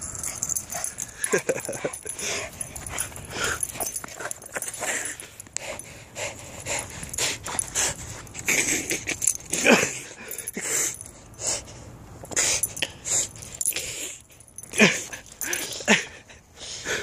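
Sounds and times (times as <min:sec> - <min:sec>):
dog snorting and wheezing: 0:00.0 - 0:17.0.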